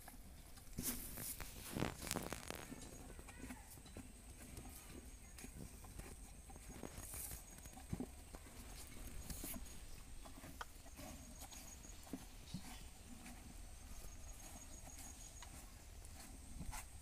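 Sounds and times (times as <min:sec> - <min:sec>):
cattle munching: 0:00.0 - 0:17.0.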